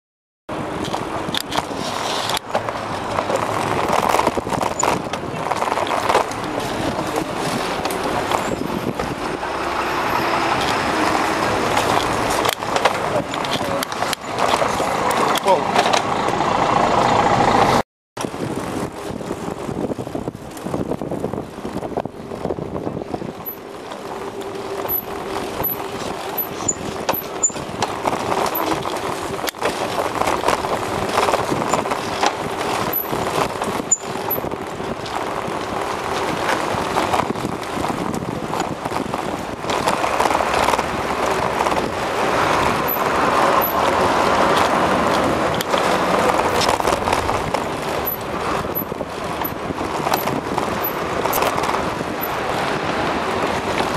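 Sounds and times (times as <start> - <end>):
motor traffic passing: 0.5 - 53.9
rushing wind: 0.5 - 53.9.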